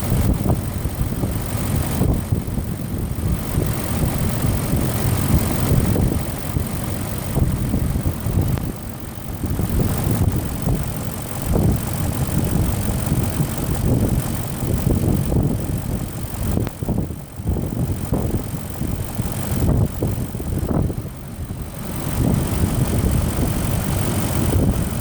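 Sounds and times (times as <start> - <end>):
car engine running rough: 0.0 - 25.0.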